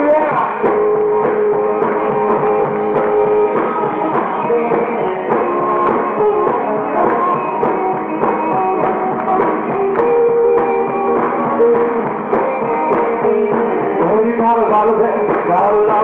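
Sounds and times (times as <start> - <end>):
lead guitar: 0.0 - 16.0
live rock band playing: 0.0 - 16.0.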